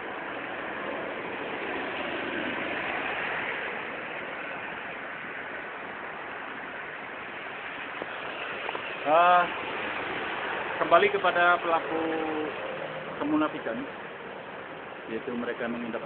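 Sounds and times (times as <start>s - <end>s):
rain falling on a street: 0.0s - 16.0s.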